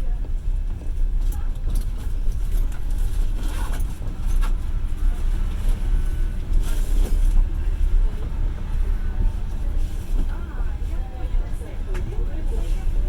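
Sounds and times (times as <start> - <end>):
train carriage rumbling on rails: 0.0 - 13.0.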